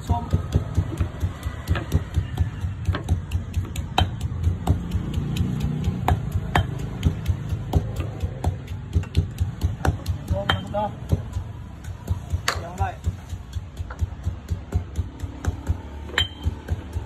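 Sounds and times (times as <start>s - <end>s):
pestle pounding in stone mortar: 0.0s - 17.0s.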